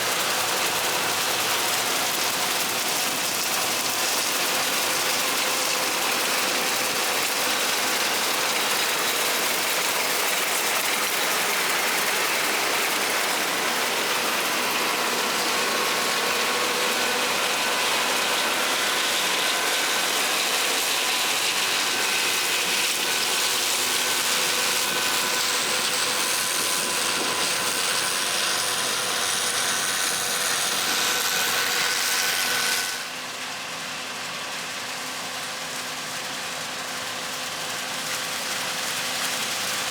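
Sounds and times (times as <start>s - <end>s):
combine harvester clatter and whir: 0.0s - 39.9s.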